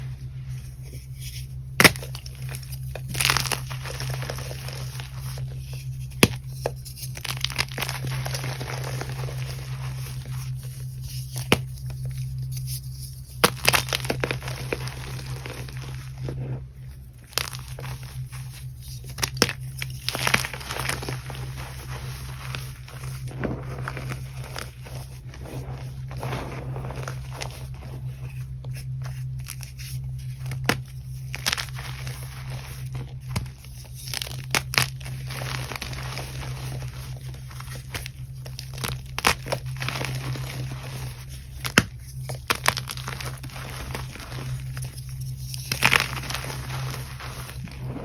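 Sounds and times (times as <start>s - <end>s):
steady low hum: 0.0s - 48.0s
chalk crunching and snapping: 0.5s - 16.6s, 17.2s - 48.0s.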